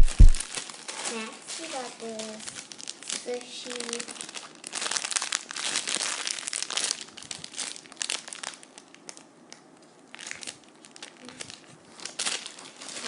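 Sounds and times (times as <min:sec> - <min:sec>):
squishy toy crinkling: 0:00.4 - 0:13.0.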